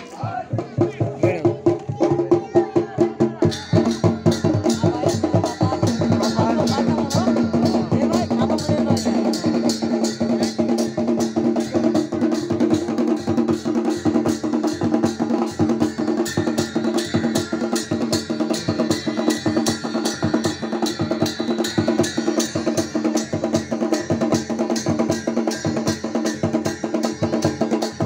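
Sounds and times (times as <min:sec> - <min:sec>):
drums beating: 0:00.0 - 0:28.0
brass cymbals striking: 0:03.4 - 0:28.0.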